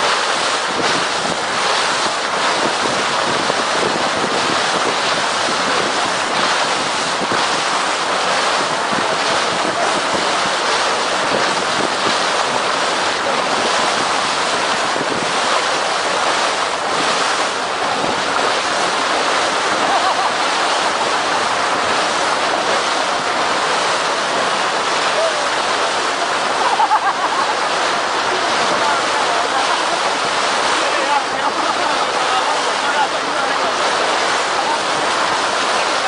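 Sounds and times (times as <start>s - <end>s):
seawater splashing along boat hull: 0.0s - 36.0s.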